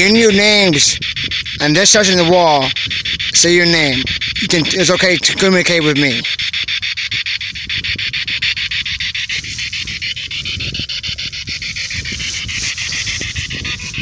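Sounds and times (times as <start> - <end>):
pulsing radio static: 0.0 - 14.0.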